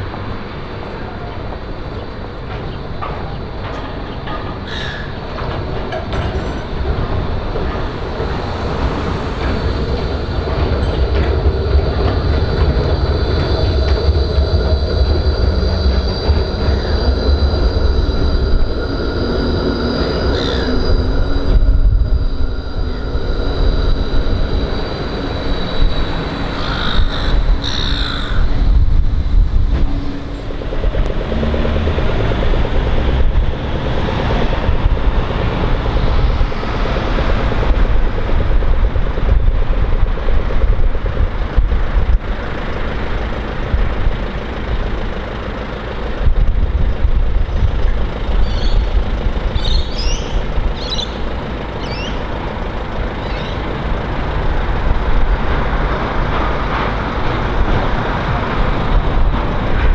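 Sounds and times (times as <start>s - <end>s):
street traffic: 0.0s - 59.9s
tram rumbling on tracks: 0.0s - 59.9s.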